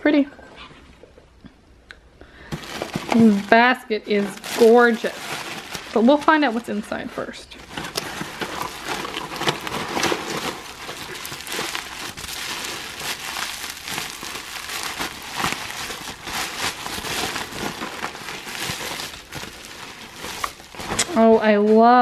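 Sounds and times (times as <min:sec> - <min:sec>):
bubble wrap crinkling: 0:02.4 - 0:22.0.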